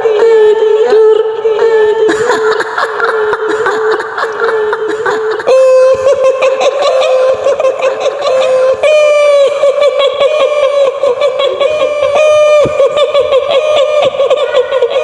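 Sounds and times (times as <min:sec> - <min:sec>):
woman cackling laugh: 0:02.1 - 0:15.0.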